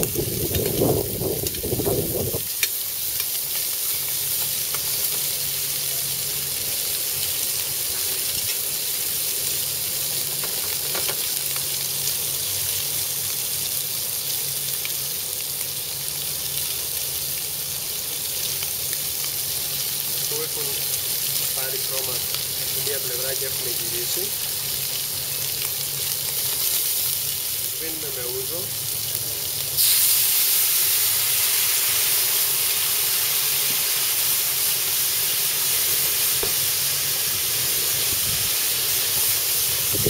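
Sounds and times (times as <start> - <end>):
shrimp sizzling in oil: 0.0 - 40.0.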